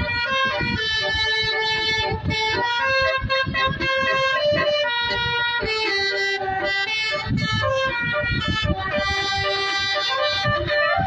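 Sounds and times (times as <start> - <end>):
bus air horn playing a tune: 0.0 - 11.0
steady low beat: 0.0 - 11.0.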